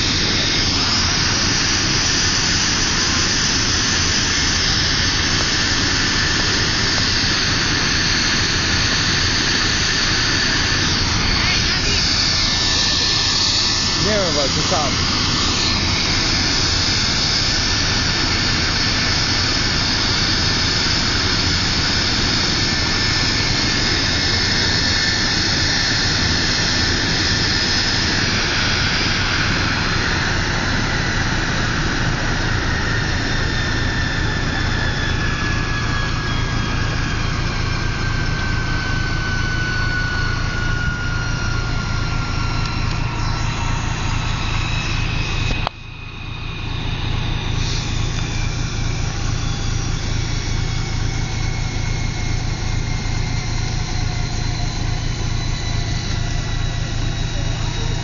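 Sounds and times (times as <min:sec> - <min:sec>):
helicopter turbine whine: 0:00.0 - 0:58.0
low rotor hum: 0:00.0 - 0:58.0.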